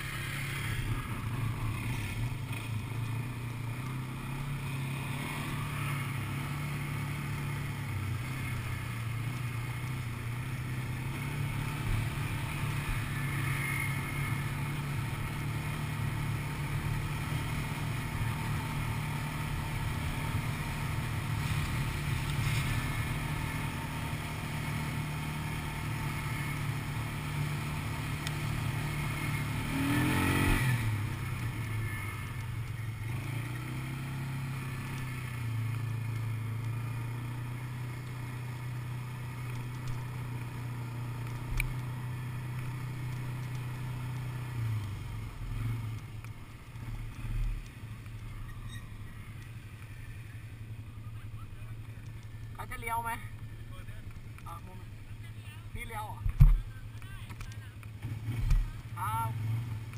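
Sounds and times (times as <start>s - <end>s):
quad bike engine droning: 0.0s - 59.9s.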